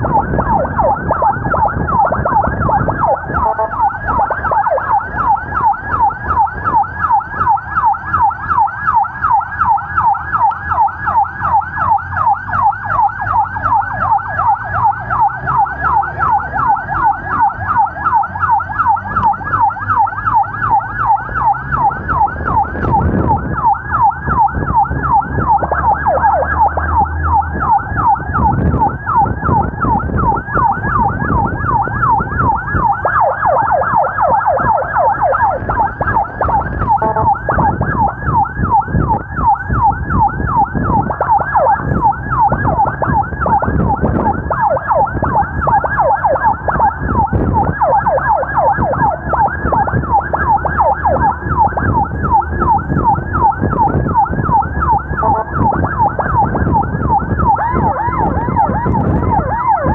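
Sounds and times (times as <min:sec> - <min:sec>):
ambulance siren yelp: 0:00.0 - 0:59.9.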